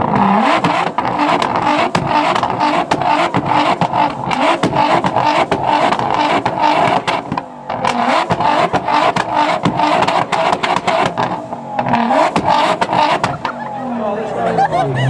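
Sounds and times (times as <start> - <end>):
loud exhaust pops and bangs: 0.0 - 13.6
car engine revving: 0.0 - 14.8.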